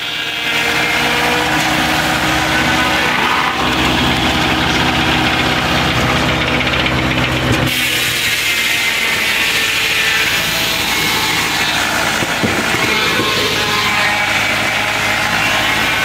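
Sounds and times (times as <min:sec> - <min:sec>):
circular saw cutting log: 0:00.0 - 0:16.0.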